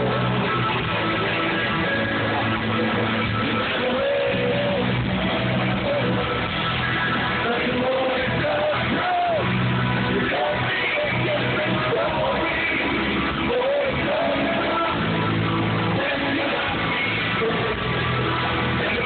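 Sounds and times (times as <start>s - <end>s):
live band playing amplified music: 0.0s - 19.0s
man singing into a microphone: 0.0s - 19.0s.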